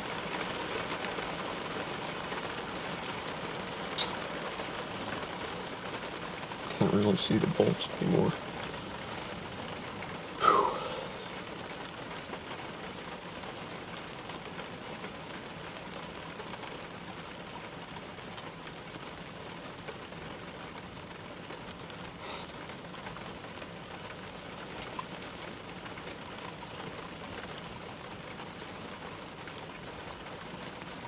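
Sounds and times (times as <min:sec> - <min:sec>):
steady rain hiss: 0:00.0 - 0:31.0
ticks of raindrops: 0:00.0 - 0:31.0.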